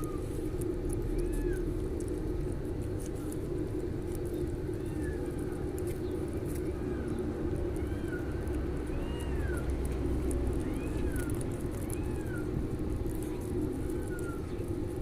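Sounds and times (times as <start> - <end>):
cats meowing faintly: 0.0 - 15.0
steady low rumble: 0.0 - 15.0.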